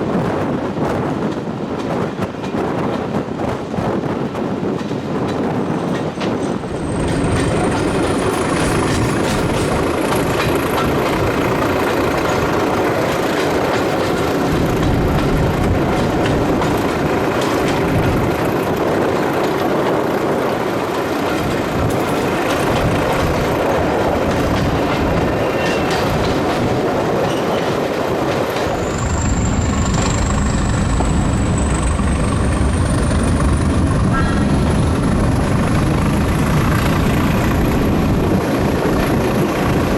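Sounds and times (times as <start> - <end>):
train running with rising whine: 5.9 - 39.9.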